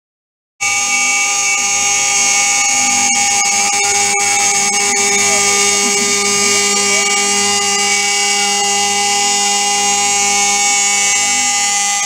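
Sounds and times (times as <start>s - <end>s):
milling machine whine: 0.6s - 12.0s.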